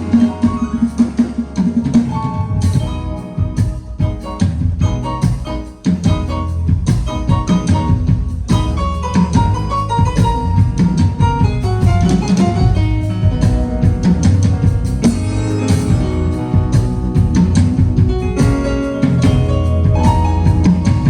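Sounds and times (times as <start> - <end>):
drum kit: 0.0 - 21.0
guitar: 0.0 - 21.0.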